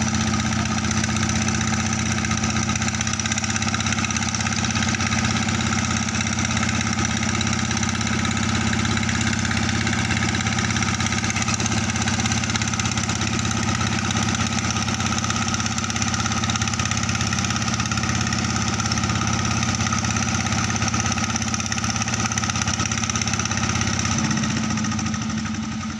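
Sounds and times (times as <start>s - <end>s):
pump engine running: 0.0s - 25.9s.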